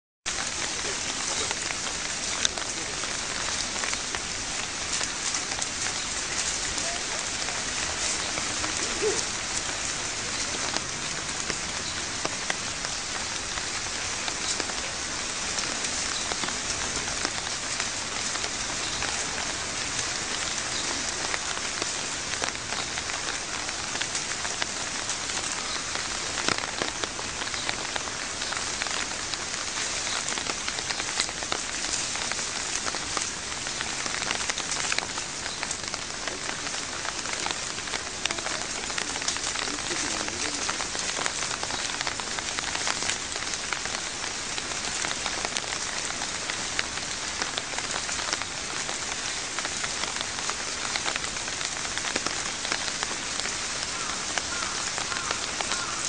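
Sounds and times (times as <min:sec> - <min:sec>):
rain falling: 0:00.2 - 0:56.0.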